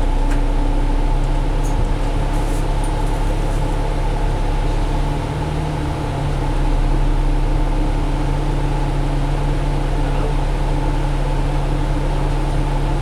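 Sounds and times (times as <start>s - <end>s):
diesel bus engine drone: 0.0s - 13.0s.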